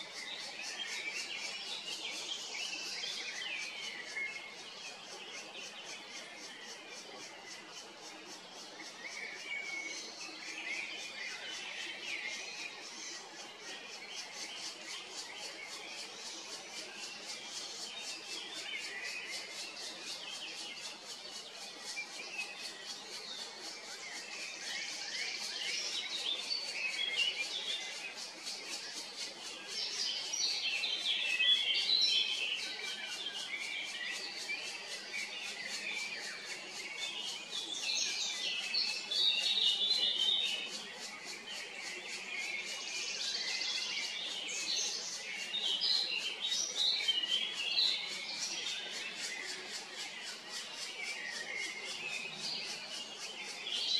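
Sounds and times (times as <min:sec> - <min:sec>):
birds chirping and singing: 0:00.0 - 0:53.9.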